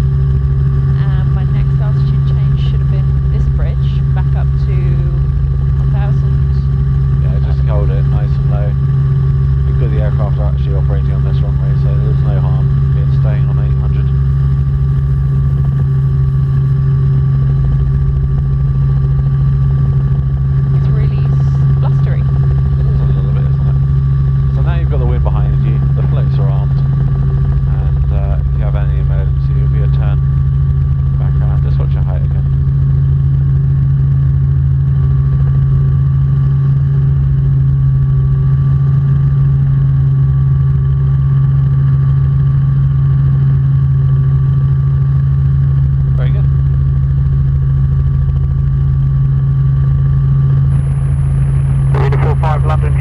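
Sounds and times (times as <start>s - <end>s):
faint steady whine: 0.0s - 53.0s
helicopter drone: 0.0s - 53.0s.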